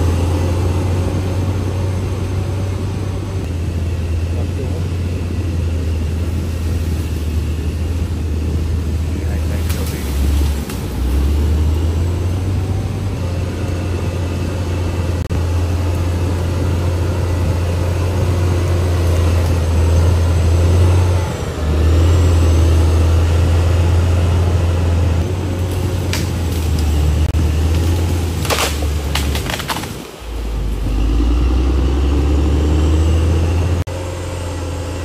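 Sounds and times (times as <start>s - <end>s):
bulldozer diesel engine droning: 0.0s - 35.0s.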